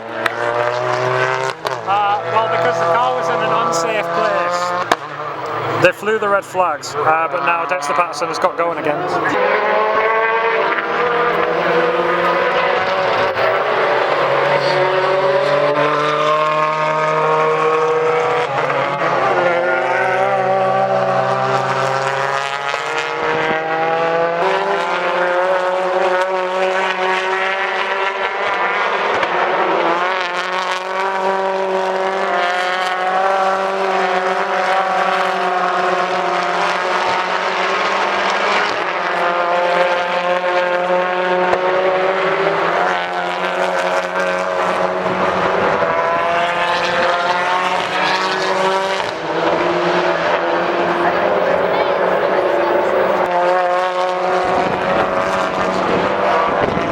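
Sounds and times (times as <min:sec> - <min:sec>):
racing car engines running: 0:00.0 - 0:56.9.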